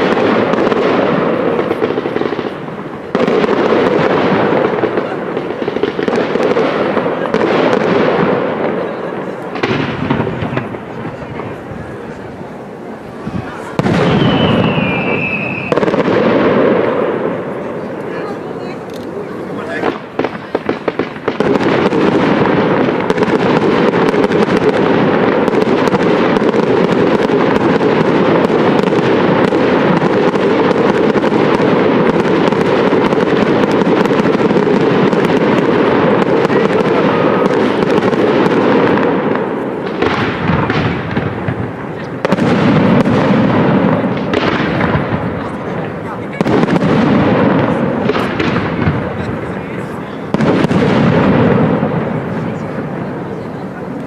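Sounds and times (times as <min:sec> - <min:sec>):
fireworks popping and banging: 0:00.0 - 0:54.0.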